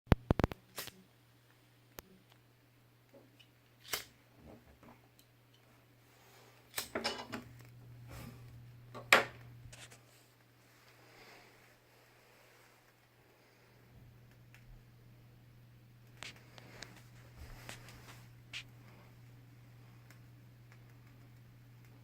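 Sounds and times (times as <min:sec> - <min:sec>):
steady low hum: 0:00.6 - 0:22.0.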